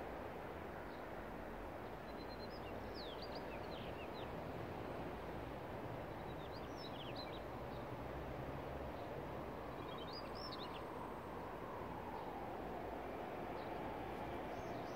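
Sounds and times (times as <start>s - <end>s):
low outdoor background noise: 0.0s - 14.9s.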